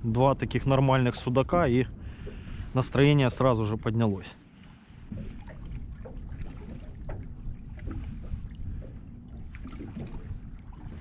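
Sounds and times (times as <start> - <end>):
water lapping against boat hull: 0.0 - 11.0
wind rumbling on microphone: 0.0 - 11.0.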